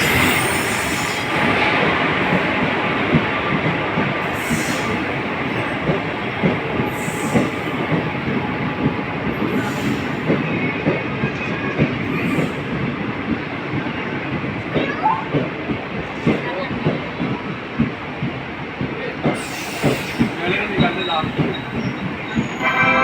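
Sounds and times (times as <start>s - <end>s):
train rolling roar: 0.0s - 23.0s.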